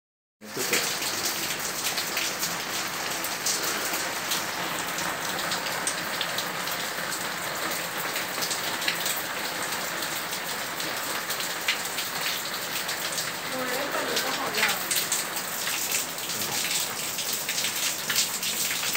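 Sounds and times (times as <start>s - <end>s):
steady rain: 0.4s - 18.9s
water running off roof edge: 0.4s - 18.9s.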